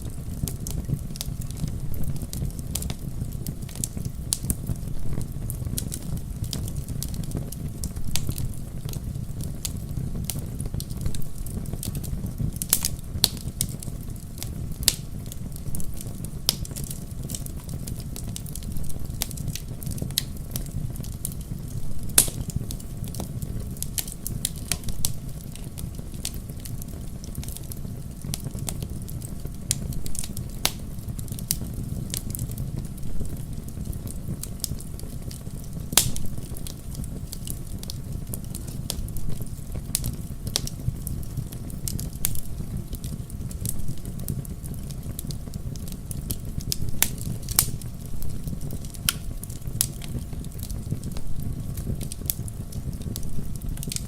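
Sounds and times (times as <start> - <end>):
fire pops and snaps: 0.0 - 54.0
wood fire crackling: 0.0 - 54.0.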